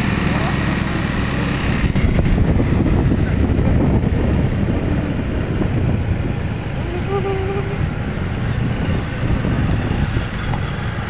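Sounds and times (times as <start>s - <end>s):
vehicle engine and road noise: 0.0s - 11.0s
wind buffeting microphone: 0.0s - 11.0s.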